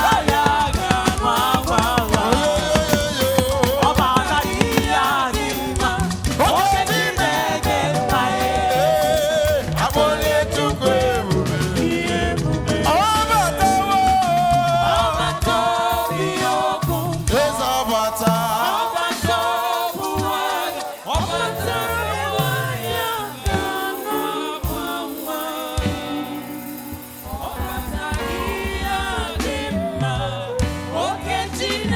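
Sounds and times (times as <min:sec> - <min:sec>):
band with bass and drums: 0:00.0 - 0:31.9
choir singing gospel: 0:00.0 - 0:31.9.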